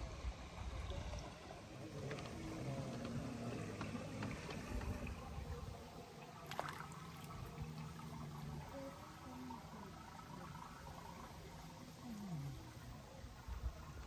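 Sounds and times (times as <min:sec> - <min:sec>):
faint lapping water: 0:00.0 - 0:14.0
low outdoor rumble: 0:00.0 - 0:14.0.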